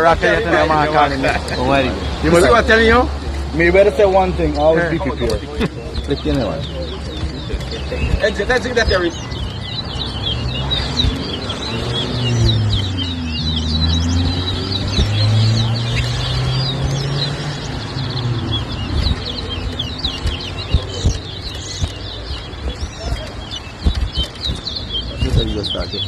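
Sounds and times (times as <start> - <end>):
finches chirping song: 0.0 - 26.0
men talking low: 0.0 - 26.0.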